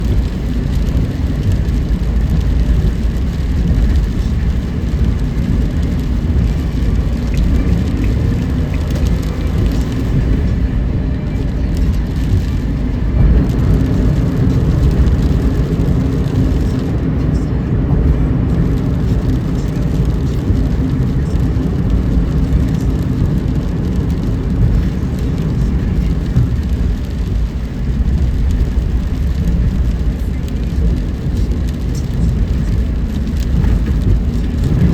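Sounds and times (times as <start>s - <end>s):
car driving on wet road: 0.0s - 34.9s.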